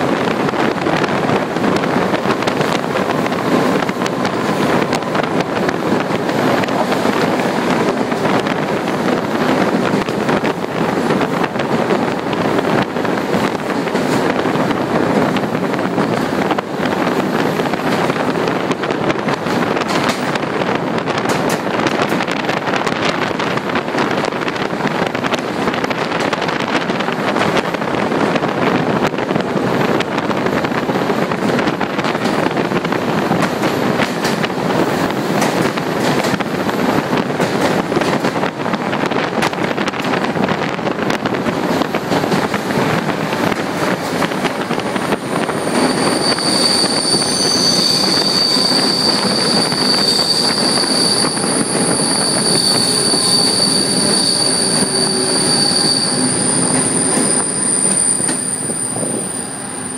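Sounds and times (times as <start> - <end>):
train running on rails: 0.0 - 59.9.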